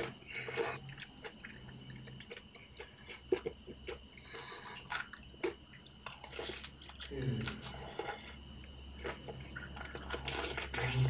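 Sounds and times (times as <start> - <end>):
chewing: 0.0 - 8.4, 9.0 - 11.0.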